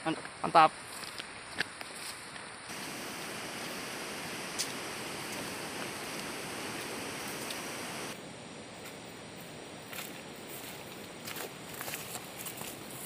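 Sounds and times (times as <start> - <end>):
steady hiss: 0.2 - 11.7.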